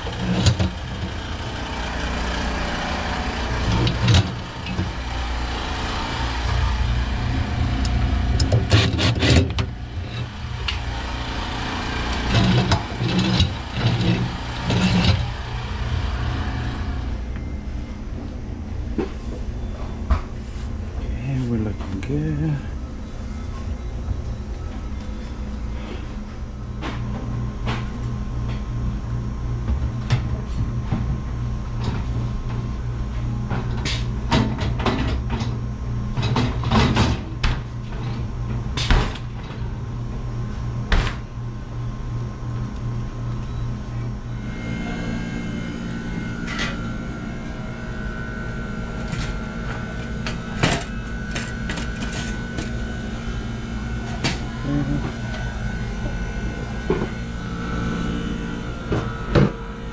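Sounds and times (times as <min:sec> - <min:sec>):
steady higher whine: 0:00.0 - 0:59.9
steady low hum: 0:00.0 - 0:59.9.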